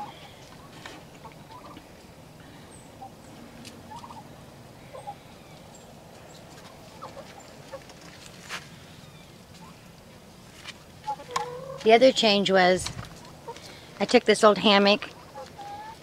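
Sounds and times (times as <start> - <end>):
chickens and turkeys calling: 0.0 - 16.0.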